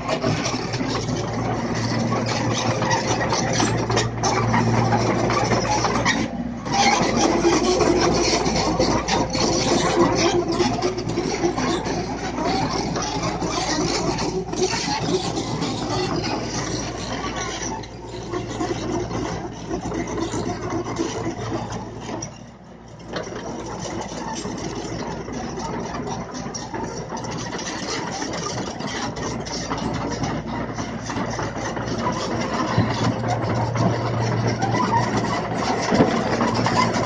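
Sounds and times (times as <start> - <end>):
mini excavator diesel engine: 0.0 - 37.0.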